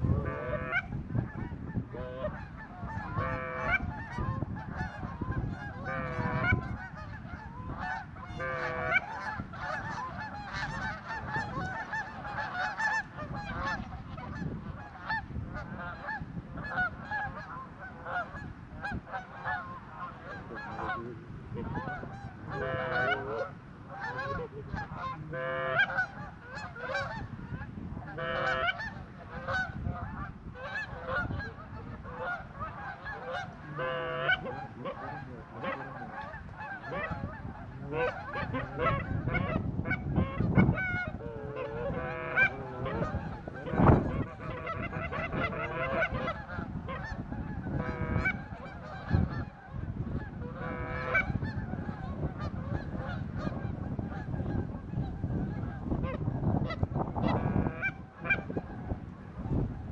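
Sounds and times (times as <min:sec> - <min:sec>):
geese honking: 0:00.0 - 0:59.9.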